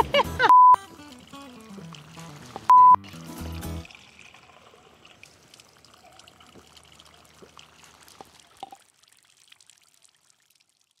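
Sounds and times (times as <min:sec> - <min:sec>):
fountain water trickling: 0:00.0 - 0:11.0
water drips and bubbles: 0:00.8 - 0:11.0.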